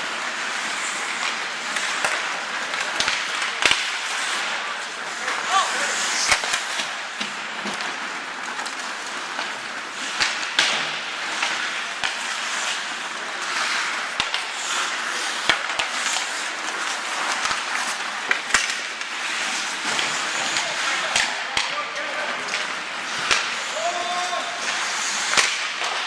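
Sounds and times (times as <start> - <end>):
hockey sticks and puck clacking: 0.0 - 26.0
skates scraping on ice: 0.0 - 26.0.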